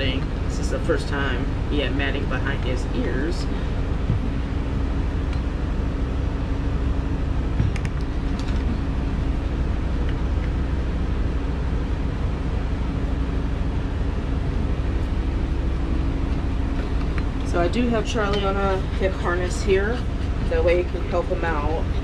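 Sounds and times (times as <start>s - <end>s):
air conditioning hum: 0.0s - 22.0s.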